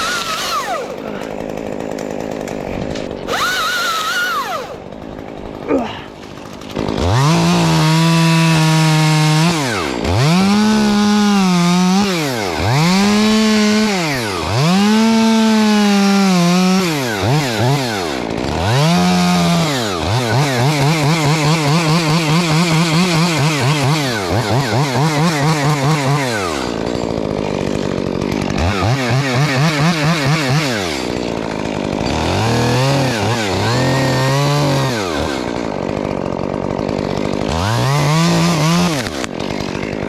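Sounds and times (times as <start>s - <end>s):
chainsaw revving: 0.0s - 40.0s.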